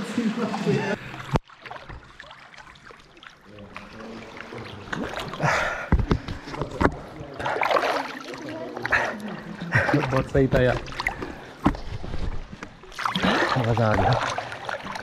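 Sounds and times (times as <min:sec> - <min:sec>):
muddy water sloshing: 0:00.9 - 0:15.0.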